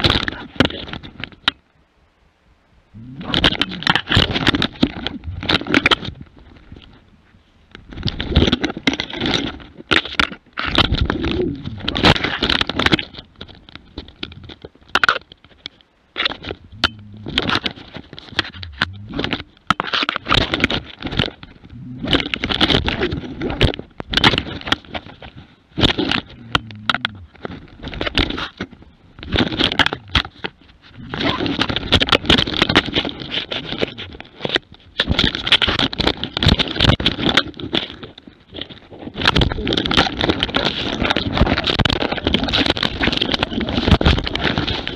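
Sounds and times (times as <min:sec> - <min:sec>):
scraping and thumping on microphone: 0:00.0 - 0:01.6, 0:03.0 - 0:44.9.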